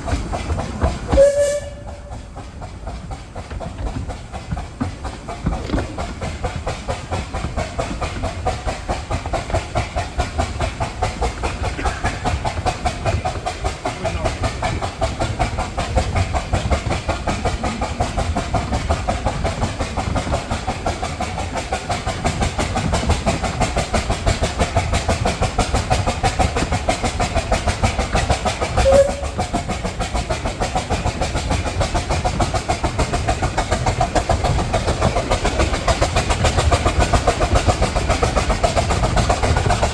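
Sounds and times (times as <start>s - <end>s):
miniature steam train running: 0.0s - 39.9s.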